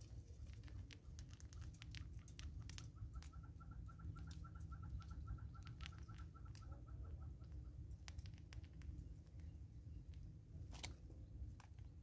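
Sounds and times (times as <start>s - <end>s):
squirrel cracking seeds: 0.0s - 12.0s.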